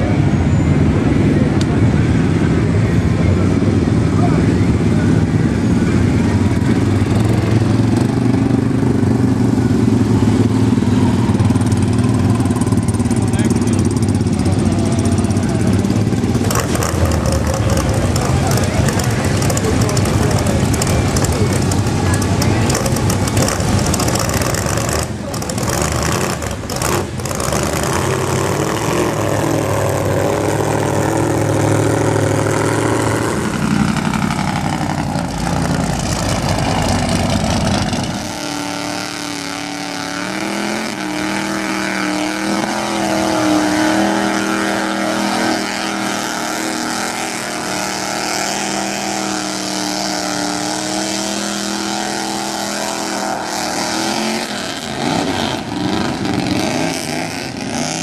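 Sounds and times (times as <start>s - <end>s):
truck engines revving in mud: 0.0s - 58.0s.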